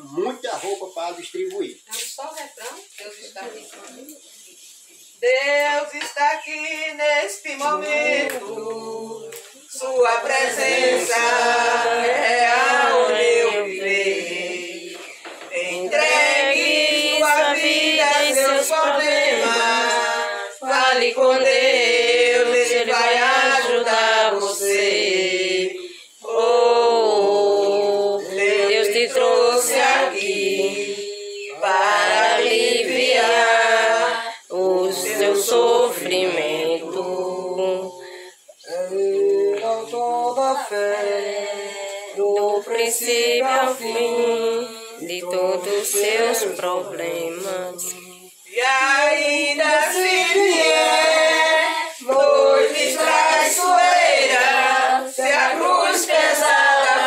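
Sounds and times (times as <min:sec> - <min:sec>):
group singing a hymn unaccompanied: 0:05.0 - 0:57.0.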